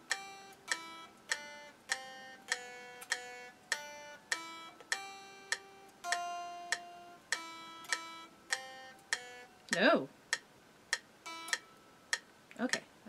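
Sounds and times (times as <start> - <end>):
electric guitar single-note melody: 0.0 - 10.0, 11.2 - 11.9.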